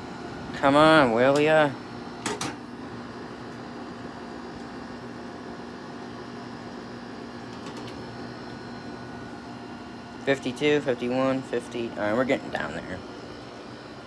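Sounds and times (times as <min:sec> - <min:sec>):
window air conditioner humming: 0:00.0 - 0:14.0.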